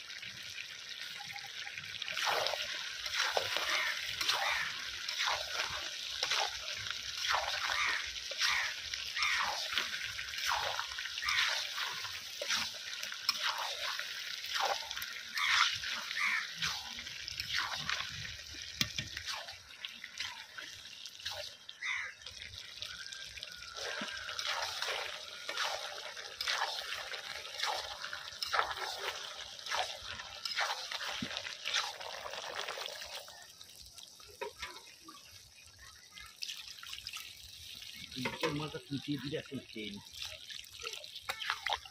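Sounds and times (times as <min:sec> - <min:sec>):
curry sizzling in a pan: 0:00.0 - 0:41.9.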